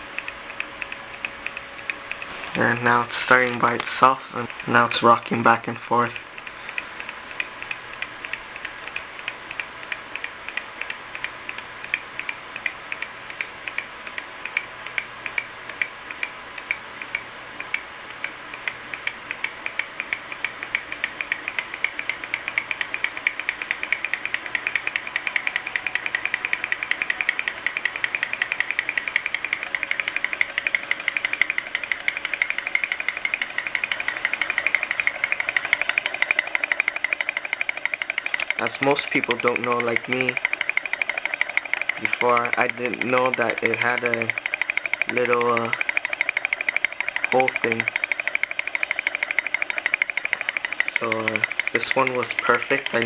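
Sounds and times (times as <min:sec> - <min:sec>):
small engine ticking rhythmically: 0:00.0 - 0:53.0.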